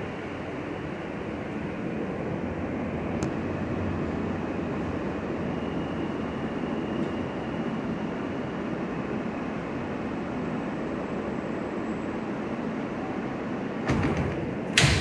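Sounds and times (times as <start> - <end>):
subway train wheels and motors rumbling: 0.0 - 15.0.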